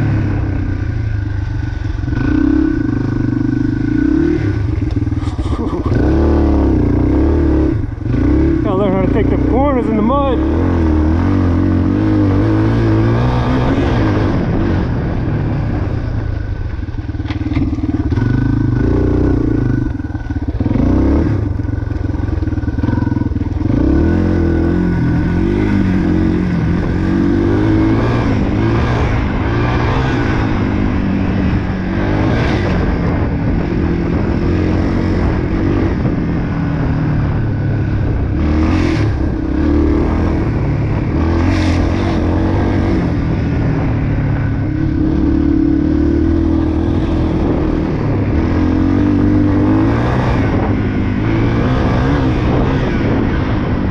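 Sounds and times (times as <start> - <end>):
dirt bike engine revving: 1.5 - 15.8, 17.3 - 53.9.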